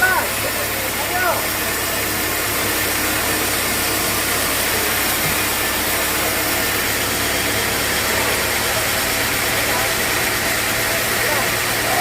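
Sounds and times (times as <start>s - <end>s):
sawmill machinery humming: 0.0s - 12.0s.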